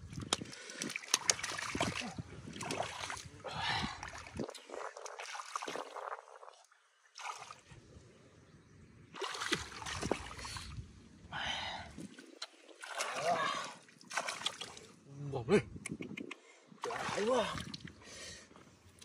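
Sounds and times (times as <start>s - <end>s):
water splashing and sloshing: 0.0s - 8.2s, 9.0s - 15.1s, 16.8s - 19.0s.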